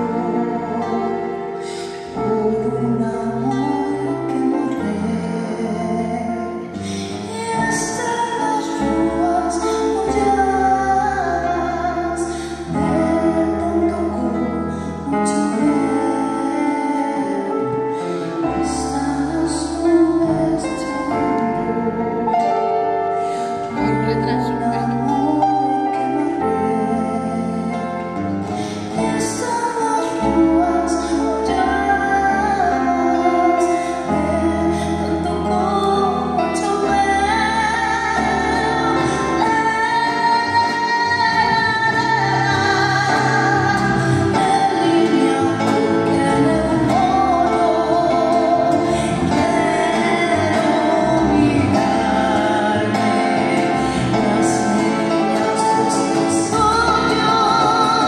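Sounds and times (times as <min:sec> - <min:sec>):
woman singing into microphone: 0:00.0 - 0:58.0.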